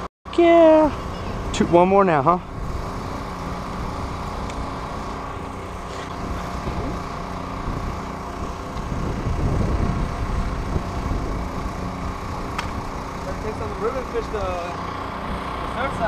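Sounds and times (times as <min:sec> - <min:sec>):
generator engine hum: 0:00.0 - 0:16.0.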